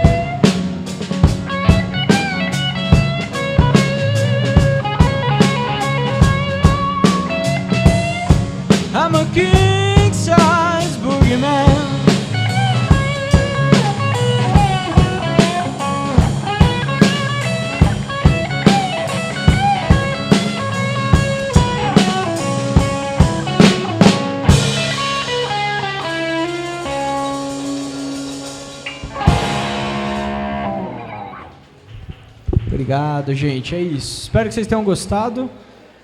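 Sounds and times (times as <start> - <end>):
drum beat: 0.0 - 31.0
lead guitar bending notes: 0.0 - 32.8
bass line: 0.0 - 32.9.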